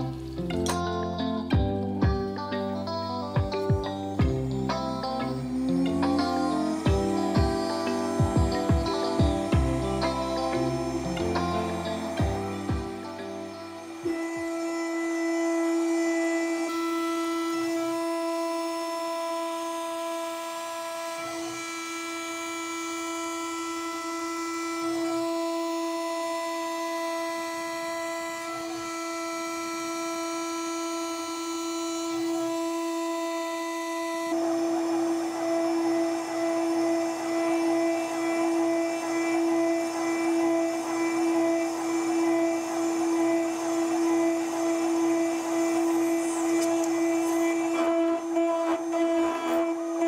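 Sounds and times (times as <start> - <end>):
router spindle whining: 0.0 - 50.0
hiss of metal cutting: 3.3 - 50.0.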